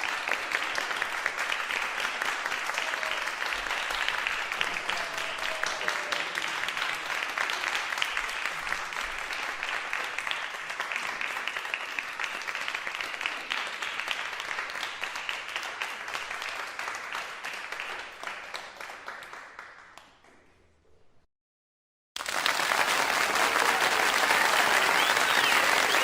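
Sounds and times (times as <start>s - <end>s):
crowd applauding: 0.0s - 20.1s, 22.2s - 26.0s.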